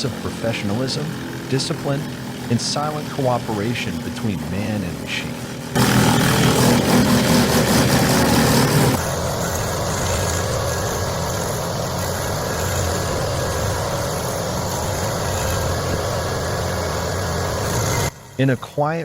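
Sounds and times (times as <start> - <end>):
heavy wood-processing machinery: 0.0 - 18.2
low engine drone: 0.0 - 19.0.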